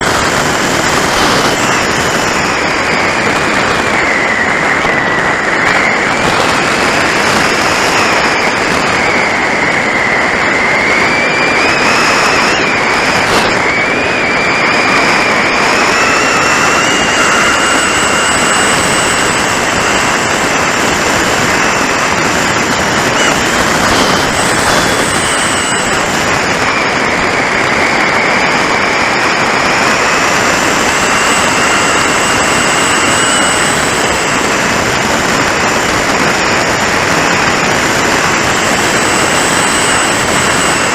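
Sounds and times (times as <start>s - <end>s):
electric motor whine: 0.0s - 40.9s
wind rushing: 0.0s - 40.9s.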